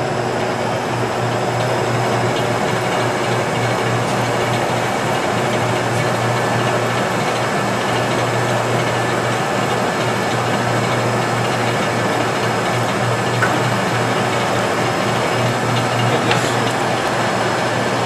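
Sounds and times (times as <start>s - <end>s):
lathe motor humming: 0.0s - 18.0s.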